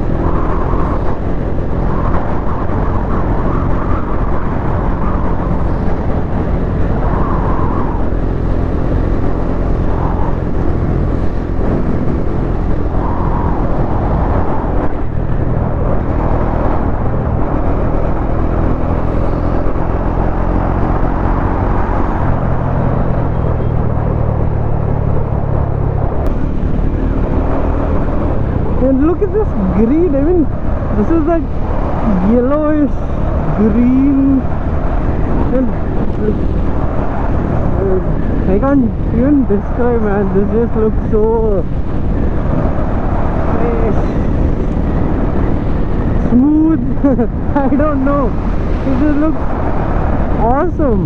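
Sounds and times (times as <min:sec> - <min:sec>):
wind rush on microphone: 0:00.0 - 0:51.0.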